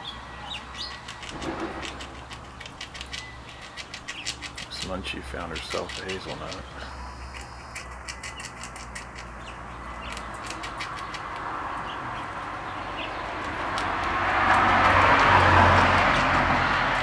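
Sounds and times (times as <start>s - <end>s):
passing vehicle engine and tyres: 0.0s - 17.0s.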